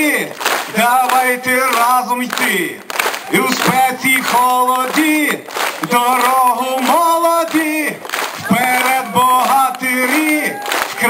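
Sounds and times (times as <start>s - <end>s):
man singing into microphone: 0.0s - 11.0s.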